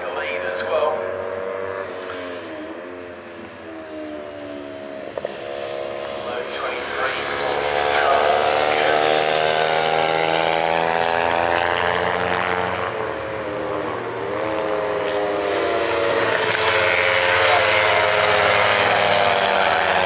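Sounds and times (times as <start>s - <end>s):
race motorcycles at high revs: 0.0s - 20.0s.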